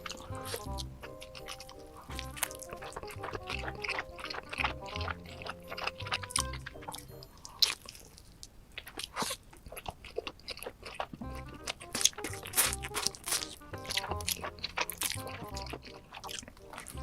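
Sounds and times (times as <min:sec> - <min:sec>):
background music: 0:00.0 - 0:07.9, 0:11.2 - 0:17.0
crunching and chewing food: 0:00.0 - 0:17.0.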